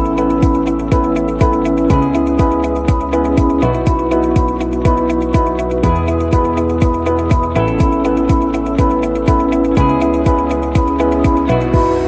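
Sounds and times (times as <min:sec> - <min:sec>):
kick drum beat: 0:00.0 - 0:12.0
sustained synth chords: 0:00.0 - 0:12.0.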